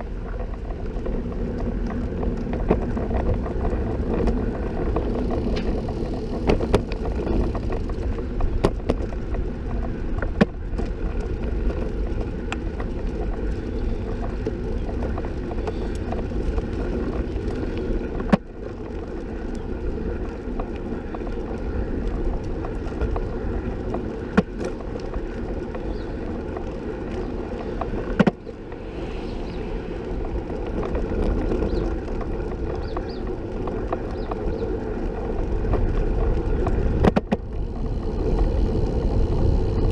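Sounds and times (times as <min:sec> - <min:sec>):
small clicks and rattles: 0:00.0 - 0:29.0, 0:30.0 - 0:39.9
tyres rumbling on road: 0:00.0 - 0:39.9.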